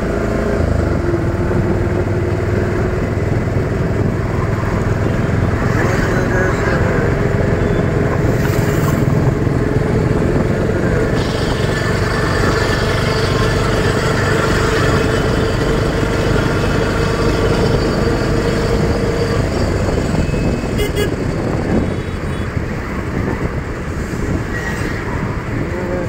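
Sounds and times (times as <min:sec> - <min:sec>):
auto-rickshaw engine running: 0:00.0 - 0:26.0
road noise: 0:00.0 - 0:26.0.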